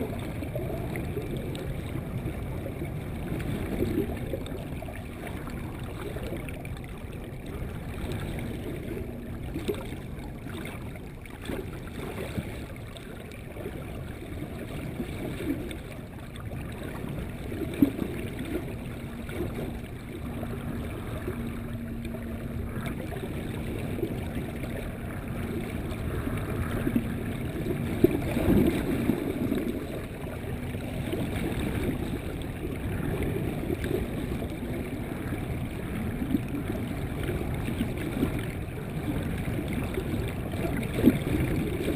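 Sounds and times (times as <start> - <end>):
faint steady hum: 0.0 - 41.9
underwater rush of water: 0.0 - 41.9.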